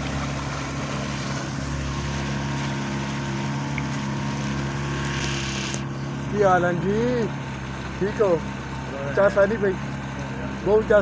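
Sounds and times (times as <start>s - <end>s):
outboard motor running: 0.0s - 11.0s
water splashing along hull: 0.0s - 11.0s.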